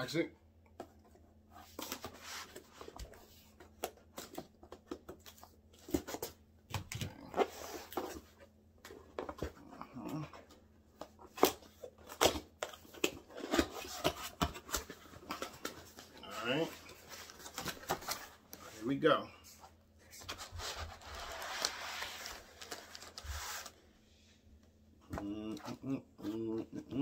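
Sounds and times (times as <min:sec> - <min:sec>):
cardboard rustling: 0:00.8 - 0:24.0.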